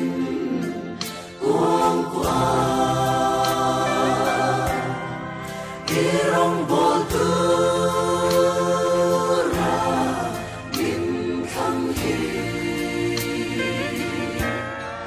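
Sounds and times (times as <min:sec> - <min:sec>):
mixed choir singing in harmony: 0:00.0 - 0:15.0.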